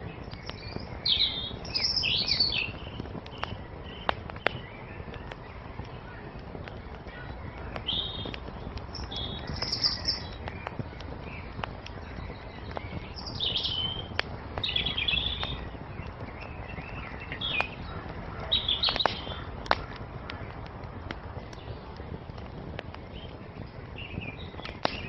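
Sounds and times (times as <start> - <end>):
small birds chirping: 0.0 - 25.0
steady low rumble: 0.0 - 25.0
wood fire crackling: 0.0 - 25.0.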